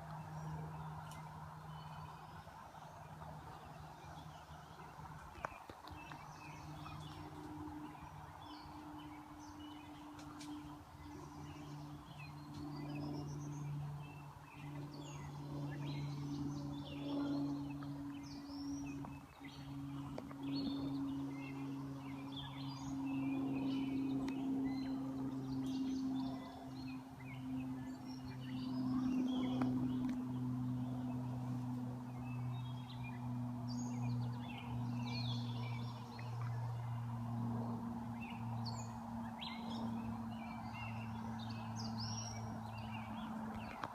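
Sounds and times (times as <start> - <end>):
birds chirping: 0.0 - 43.9
low drone: 0.0 - 43.9.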